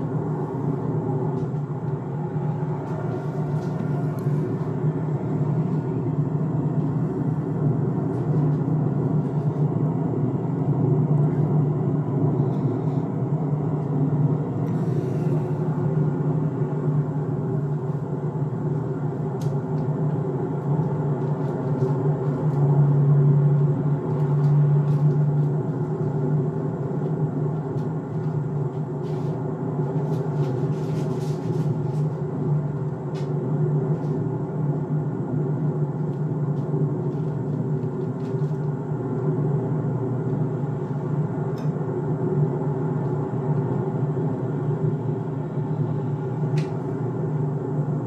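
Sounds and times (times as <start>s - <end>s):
car cruising hum from inside: 0.0s - 48.0s.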